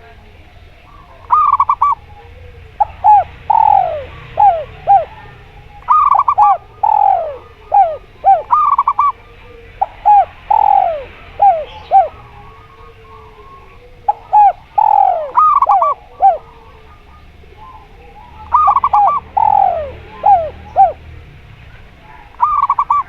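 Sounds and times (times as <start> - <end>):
doves cooing: 0.0 - 23.0
trilling dove calls: 0.0 - 23.0.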